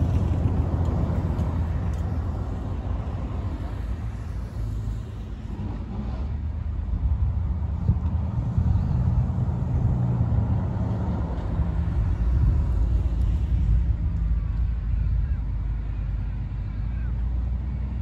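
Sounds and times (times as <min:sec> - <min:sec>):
car engine and exhaust rumble: 0:00.0 - 0:18.0
cars driving past: 0:00.0 - 0:18.0.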